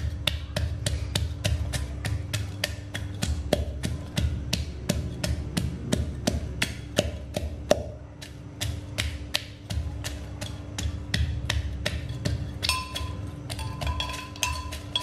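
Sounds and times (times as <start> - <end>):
steady low hum: 0.0 - 15.0
wooden pestle pounding in a mortar: 0.0 - 15.0.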